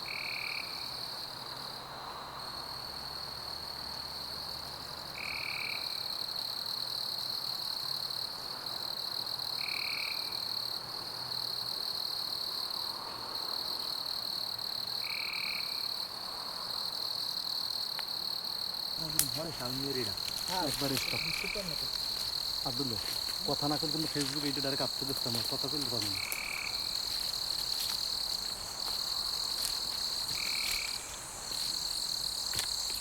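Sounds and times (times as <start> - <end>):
frogs and insects drone: 0.0 - 33.0.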